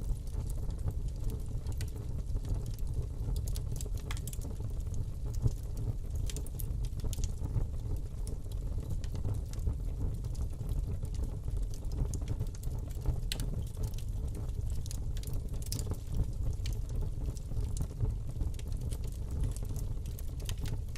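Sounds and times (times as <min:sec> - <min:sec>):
fire crackling and popping: 0:00.0 - 0:20.9
low rumble of flame: 0:00.0 - 0:20.9.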